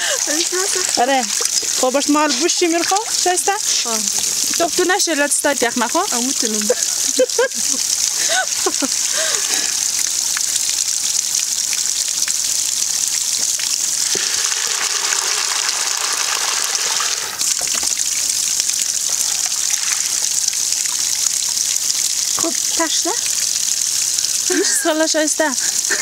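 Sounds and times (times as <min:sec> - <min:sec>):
water pouring into a metal basin: 0:00.0 - 0:26.0.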